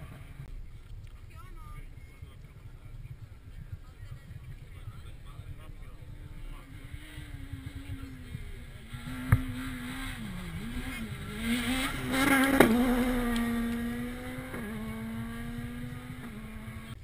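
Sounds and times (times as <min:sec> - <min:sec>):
rally car engine revving: 0:02.0 - 0:17.0.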